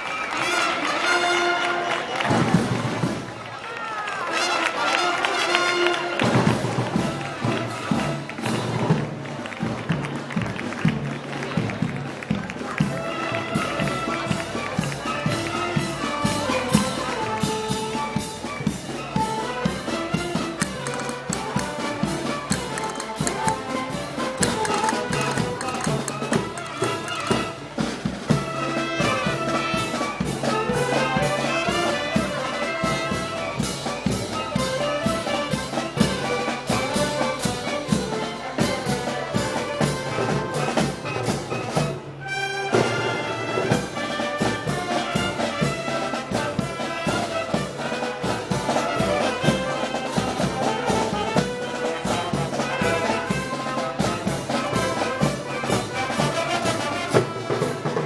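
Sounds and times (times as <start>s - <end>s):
brass band march: 0.0s - 58.0s
drum beat: 6.3s - 41.3s, 43.8s - 58.0s.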